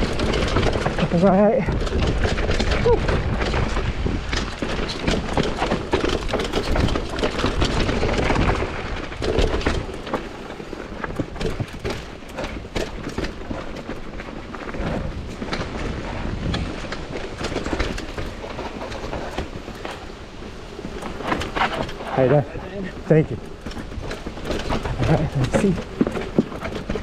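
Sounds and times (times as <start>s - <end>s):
bike clicks and rattles: 0.0s - 27.0s
tyres rolling over rock: 0.0s - 27.0s
wind rumbling on microphone: 0.0s - 27.0s.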